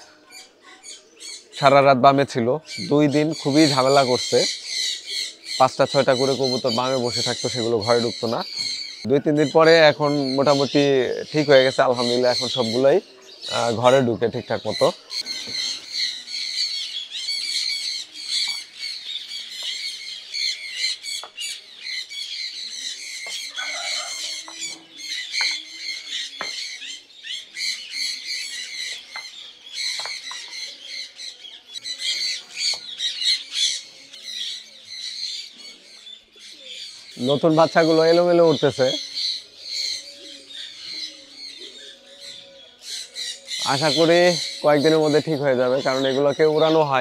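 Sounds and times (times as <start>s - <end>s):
birds chirping and squawking: 0.0s - 47.0s.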